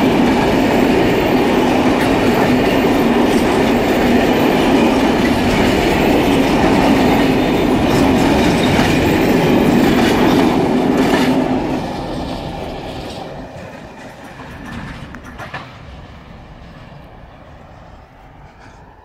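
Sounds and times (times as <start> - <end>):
wheels clacking over rail joints: 0.0 - 17.3
freight wagons rolling on rails: 0.0 - 17.4.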